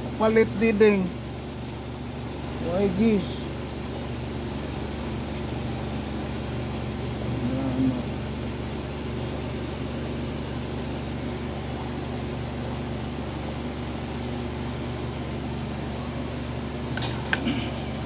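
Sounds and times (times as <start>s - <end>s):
low hum with faint hiss: 0.0s - 18.0s.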